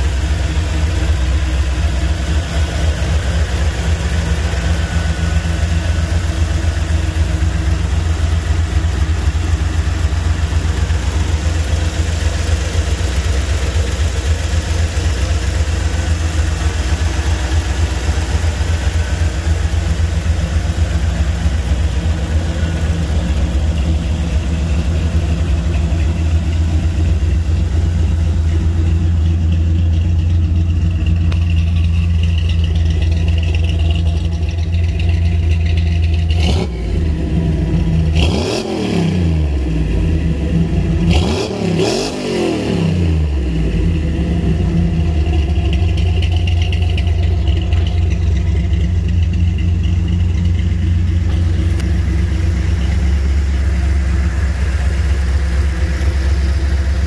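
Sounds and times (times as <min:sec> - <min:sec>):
pickup engine idling: 0:00.0 - 0:57.0.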